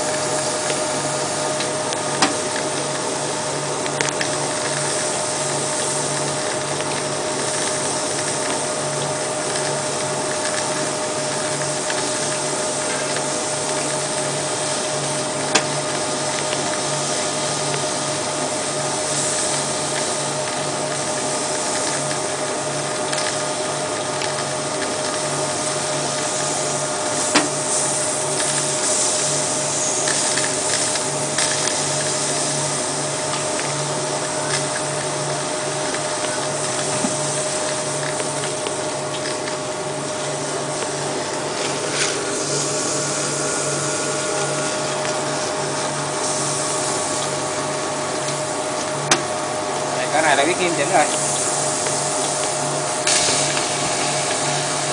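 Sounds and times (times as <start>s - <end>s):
briquette press running: 0.0s - 54.9s.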